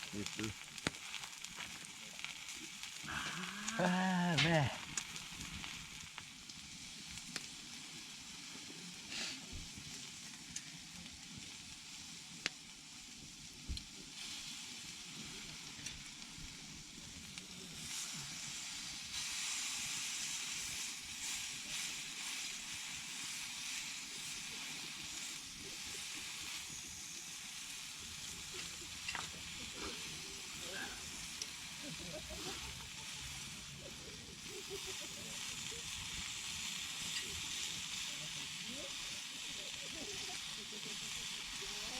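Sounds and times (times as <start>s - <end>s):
food sizzling: 0.0s - 41.9s.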